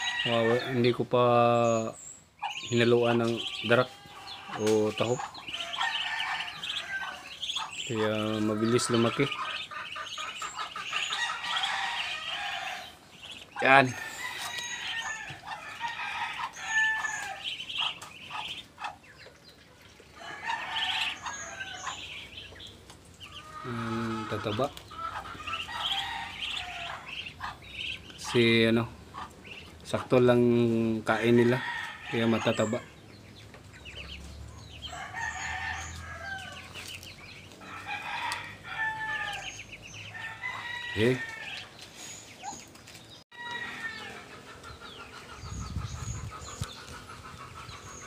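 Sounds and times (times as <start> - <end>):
drawn-out poultry calls: 0.0 - 48.0
ducklings peeping: 0.0 - 48.0.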